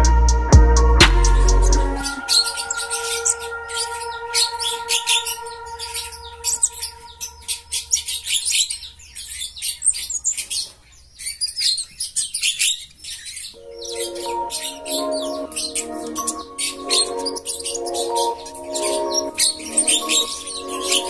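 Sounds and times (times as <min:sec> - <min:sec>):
bird singing high chirps: 0:01.4 - 0:21.0.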